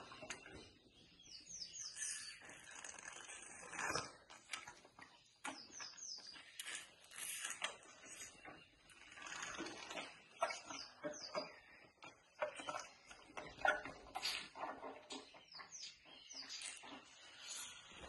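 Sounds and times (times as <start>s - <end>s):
elephant calf sucking and slurping: 1.7s - 18.0s.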